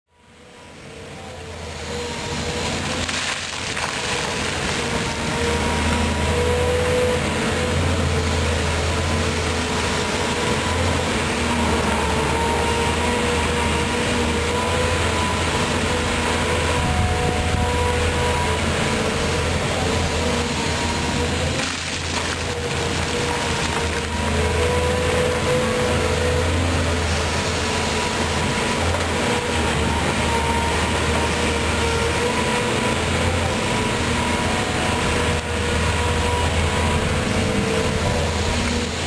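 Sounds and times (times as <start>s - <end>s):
excavator diesel engine: 0.1s - 39.0s.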